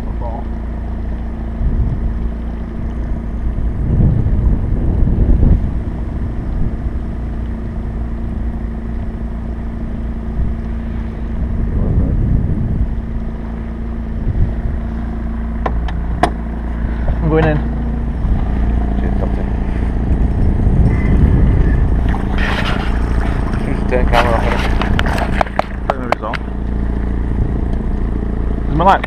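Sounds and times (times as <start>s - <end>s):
outboard motor humming: 0.0s - 29.0s.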